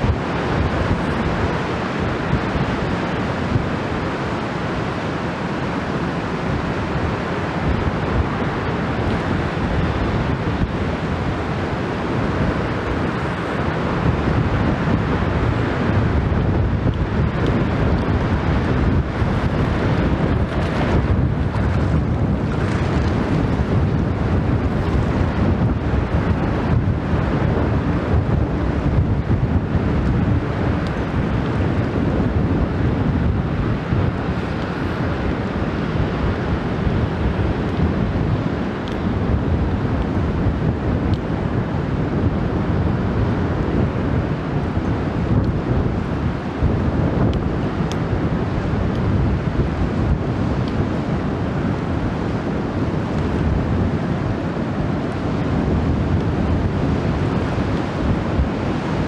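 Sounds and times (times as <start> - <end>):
choppy river water: 0.0 - 59.0
strong wind buffeting microphone: 0.0 - 59.0.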